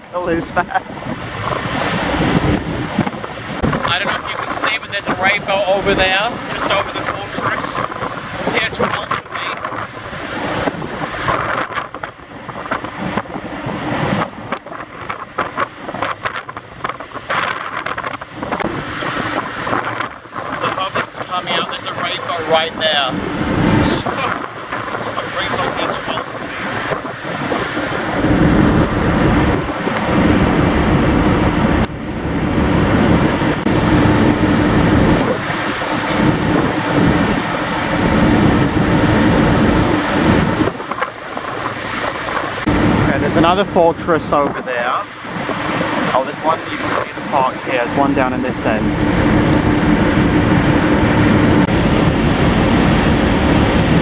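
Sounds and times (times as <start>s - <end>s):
steady low hum: 0.0s - 54.0s
wind buffeting microphone: 0.0s - 54.0s.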